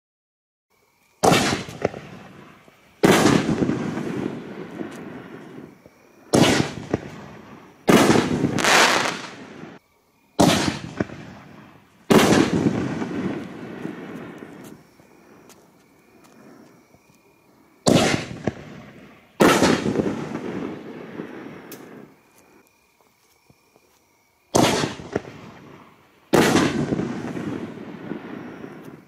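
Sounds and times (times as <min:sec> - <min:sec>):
firework shells bursting with bangs: 0:01.2 - 0:09.8, 0:10.4 - 0:16.8, 0:17.8 - 0:22.2, 0:24.5 - 0:29.0.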